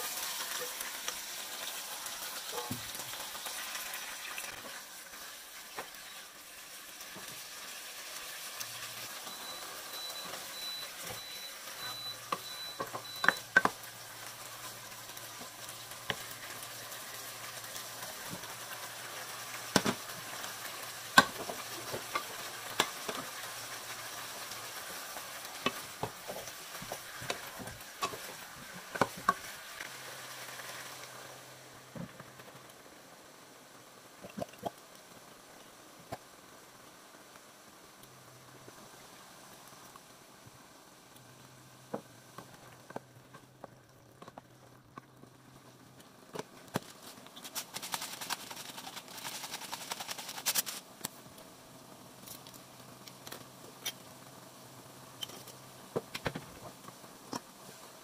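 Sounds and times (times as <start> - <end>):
meat sizzling in a pot: 0.0 - 58.0.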